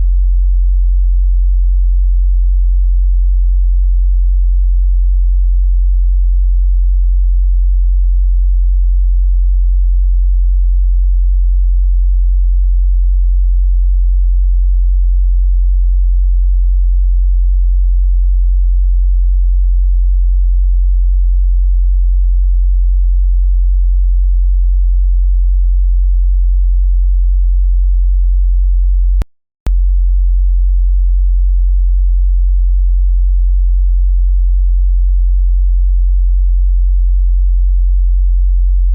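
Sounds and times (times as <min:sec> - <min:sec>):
low sine-wave test tone: 0:00.0 - 0:38.9.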